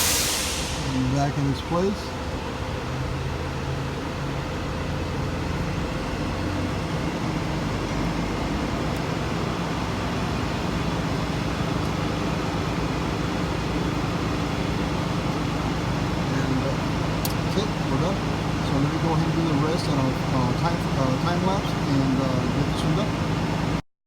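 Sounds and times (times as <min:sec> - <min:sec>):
low mechanical drone: 0:00.0 - 0:23.8.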